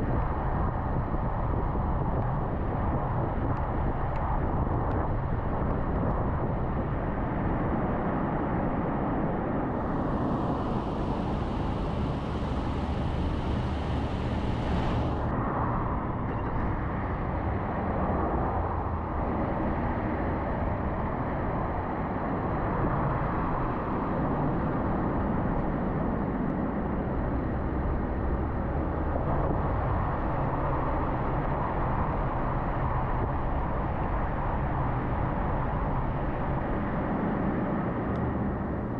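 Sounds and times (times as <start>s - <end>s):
car tyre and engine noise: 0.0s - 38.9s.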